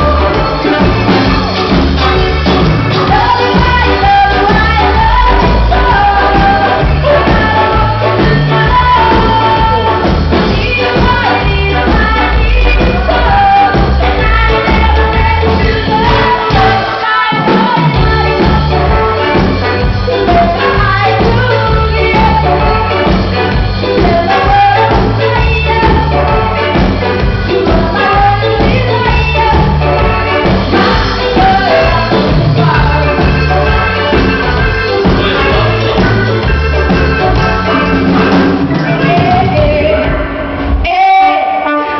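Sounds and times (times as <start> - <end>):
steady bass line: 0.0 - 41.0
live band playing: 0.0 - 41.9
person singing: 0.0 - 41.9.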